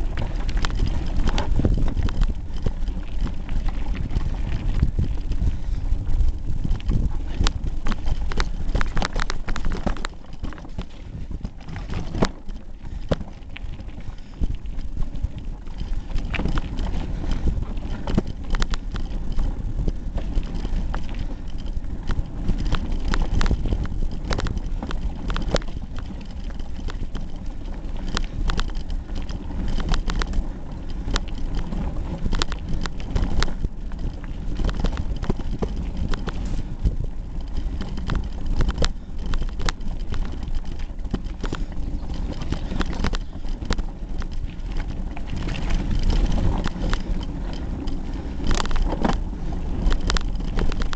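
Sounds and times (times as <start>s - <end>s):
bike frame knocks and clatters: 0.0s - 50.9s
bike tyres rumbling on trail: 0.0s - 50.9s.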